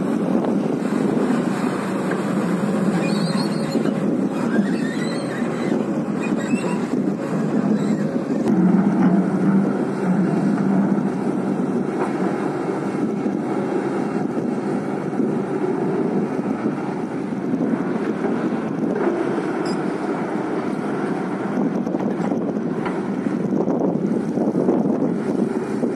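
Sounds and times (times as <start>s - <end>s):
excavator engine under load: 0.0s - 25.9s.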